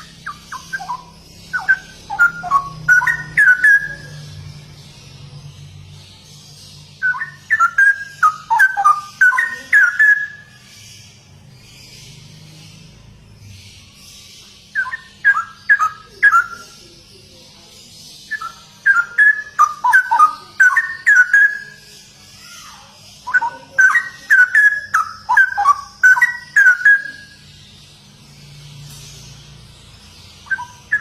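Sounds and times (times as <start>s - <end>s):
bird singing whistled notes: 0.0s - 31.0s.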